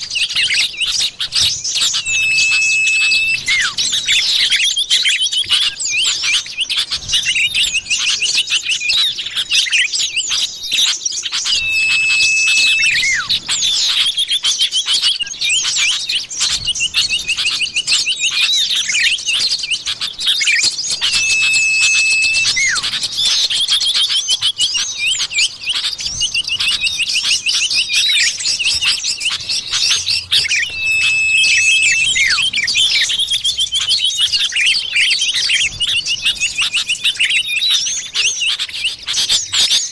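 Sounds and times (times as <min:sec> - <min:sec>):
bird chirps and trills: 0:00.0 - 0:39.9
long level bird whistle: 0:00.0 - 0:39.9.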